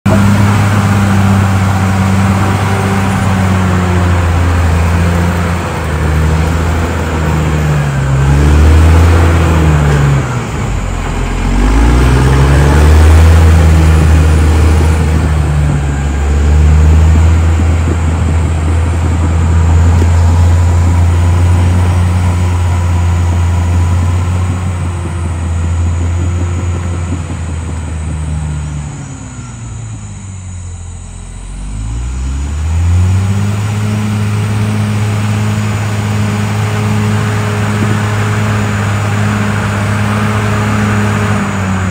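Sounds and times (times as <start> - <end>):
bulldozer diesel engine under load: 0.0 - 41.9.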